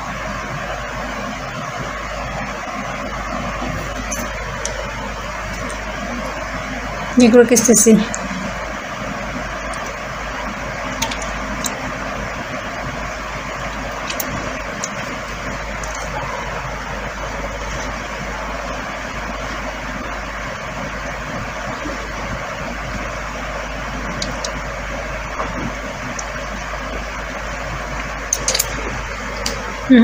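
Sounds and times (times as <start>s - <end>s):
steady rushing background noise: 0.0s - 30.0s.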